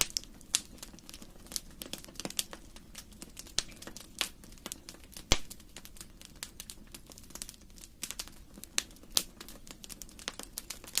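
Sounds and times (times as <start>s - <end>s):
low rumble of flames: 0.0s - 11.0s
wood fire crackling: 0.0s - 11.0s.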